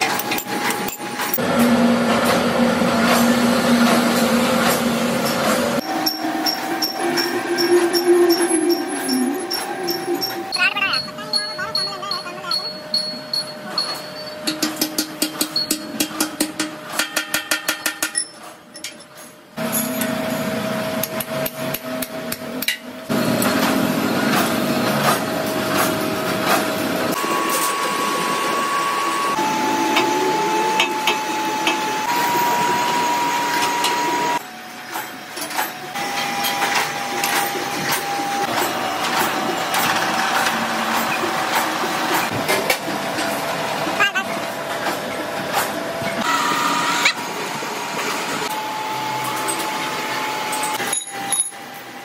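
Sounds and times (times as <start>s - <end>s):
workshop machinery whining: 0.0s - 52.0s.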